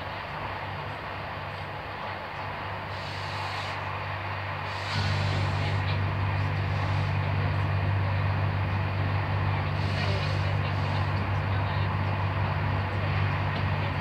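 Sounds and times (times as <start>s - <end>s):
train interior low hum: 0.0s - 14.0s
wheel and rail noise: 0.0s - 14.0s.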